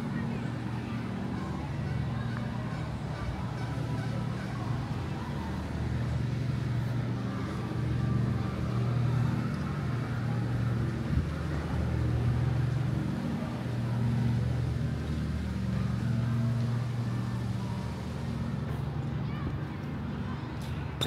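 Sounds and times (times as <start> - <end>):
low engine-like rumble: 0.0 - 21.0.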